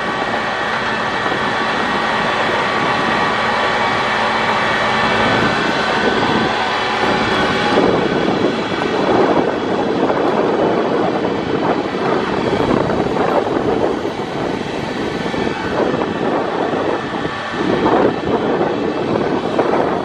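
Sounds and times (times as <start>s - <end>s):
rough rushing noise: 0.0s - 20.0s
track rumble: 0.0s - 20.0s
tram motor whine: 0.0s - 20.0s.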